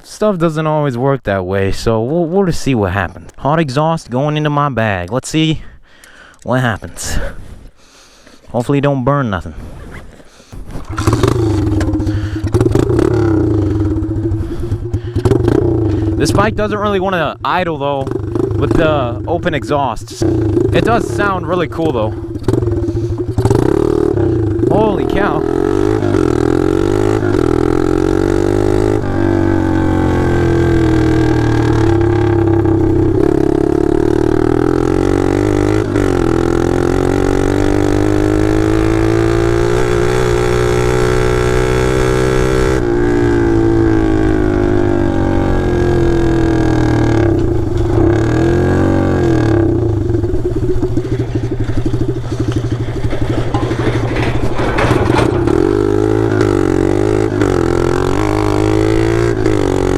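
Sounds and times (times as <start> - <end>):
loud motorbike engine revving: 10.6 - 17.4, 18.0 - 59.9.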